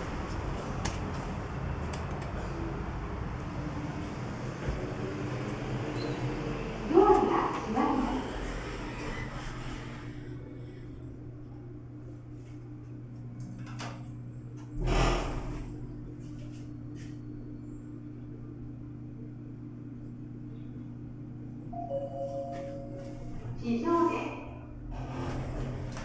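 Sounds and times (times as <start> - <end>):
elevator low hum: 0.0 - 26.0.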